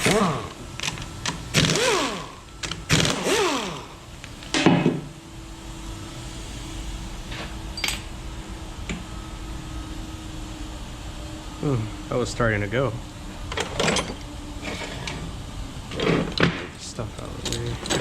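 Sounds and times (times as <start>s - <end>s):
cordless power tool running: 0.0s - 18.0s
faint steady hum: 0.0s - 18.0s.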